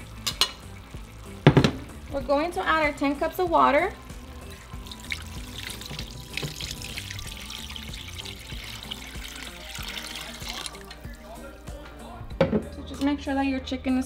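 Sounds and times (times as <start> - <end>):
water pouring into a pot: 0.0 - 11.6.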